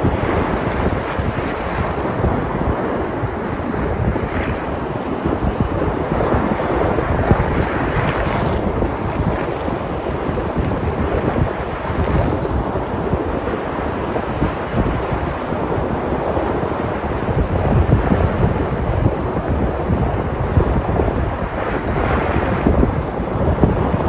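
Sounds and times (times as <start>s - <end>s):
sea surf breaking: 0.0s - 24.0s.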